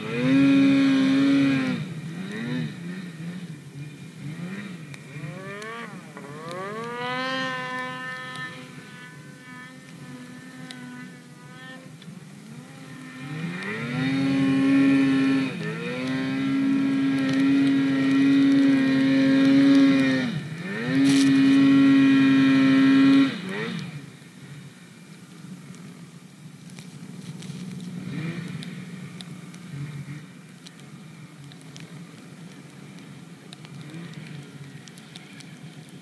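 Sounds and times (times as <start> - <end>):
snowmobile engine revving: 0.0 - 24.7, 27.1 - 31.4, 32.1 - 36.0.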